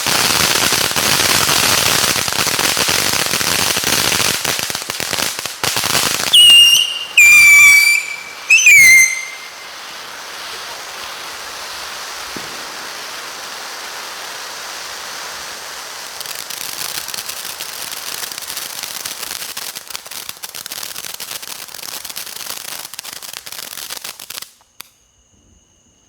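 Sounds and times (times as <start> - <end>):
fountain firework hissing: 0.0 - 24.5
firework rapid crackling pops: 0.0 - 25.1.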